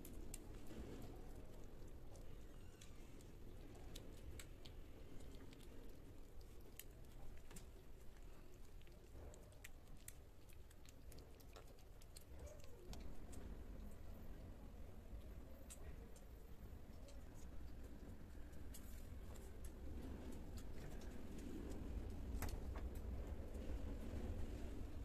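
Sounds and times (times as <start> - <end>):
kittens lapping and chewing food: 0.0 - 25.0.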